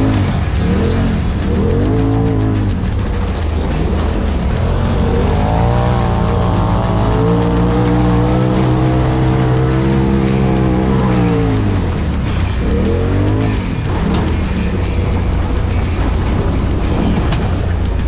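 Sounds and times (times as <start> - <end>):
background music: 0.0 - 18.0
engine running hard: 0.0 - 18.0.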